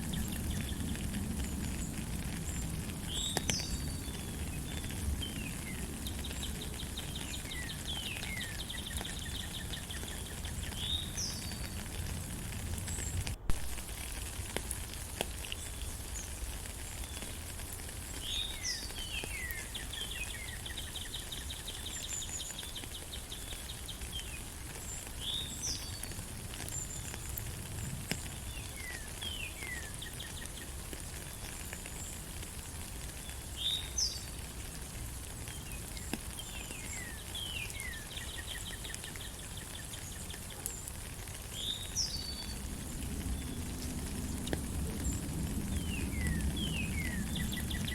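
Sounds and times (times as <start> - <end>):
songbirds whistling and trilling: 0.0 - 12.0, 15.4 - 34.5, 35.3 - 47.9
rain hiss: 0.0 - 47.9.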